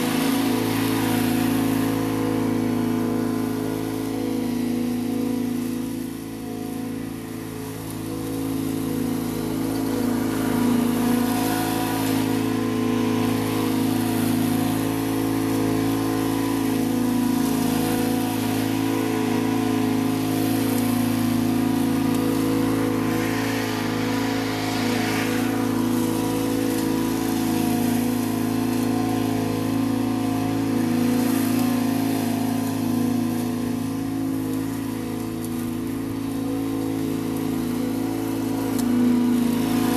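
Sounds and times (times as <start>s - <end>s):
riding mower engine running: 0.0s - 39.9s.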